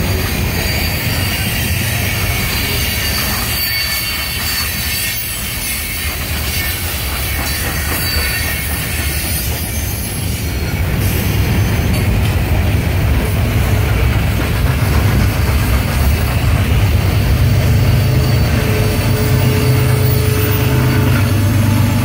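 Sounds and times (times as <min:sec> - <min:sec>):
high wheel squeal: 0:00.0 - 0:12.4, 0:13.8 - 0:22.0
rumble of wheels on rails: 0:00.0 - 0:22.0.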